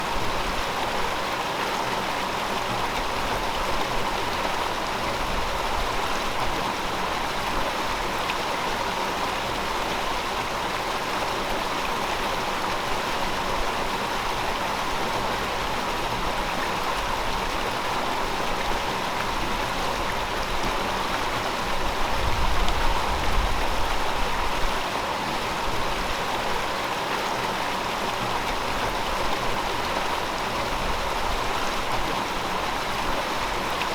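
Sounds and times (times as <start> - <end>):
river flowing over rocks: 0.0 - 33.9.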